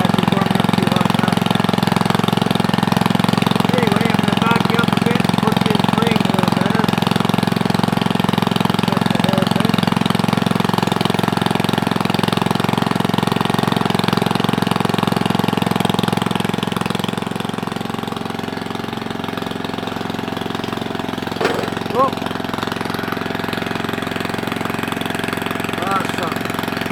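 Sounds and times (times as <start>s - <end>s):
small engine running without muffler: 0.0s - 26.9s.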